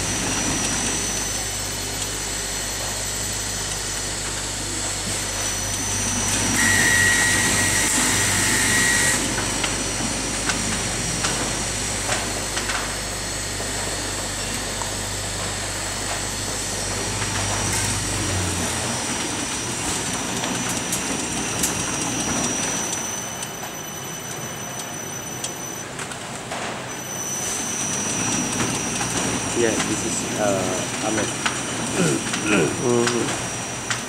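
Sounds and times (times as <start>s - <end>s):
fabric spreading machine running: 0.0s - 34.0s.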